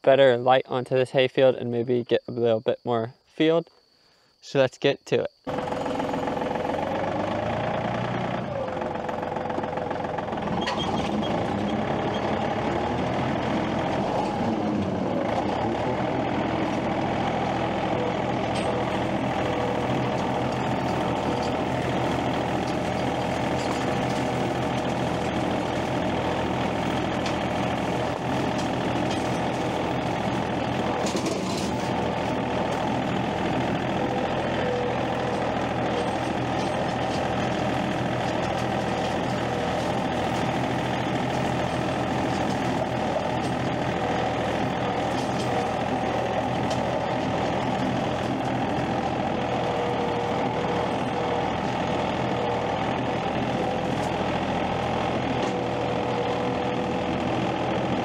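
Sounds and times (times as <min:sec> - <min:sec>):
engine running steadily: 0:05.5 - 0:58.0.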